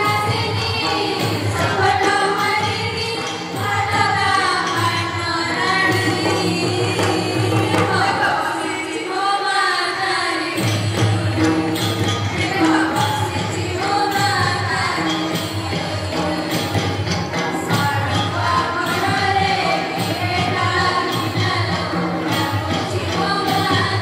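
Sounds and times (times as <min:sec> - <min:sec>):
girls singing into a microphone: 0:00.0 - 0:24.0
tablas: 0:00.0 - 0:24.0.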